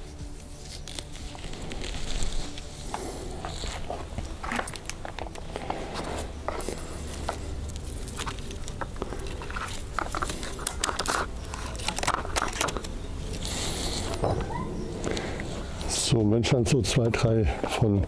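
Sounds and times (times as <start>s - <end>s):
hands rustling branches: 0.0s - 18.0s
bamboo stakes clicking and snapping: 0.5s - 15.9s.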